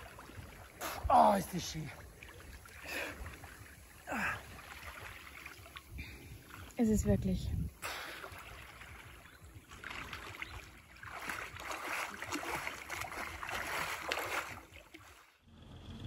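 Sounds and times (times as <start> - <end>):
water lapping and splashing: 0.0 - 15.5.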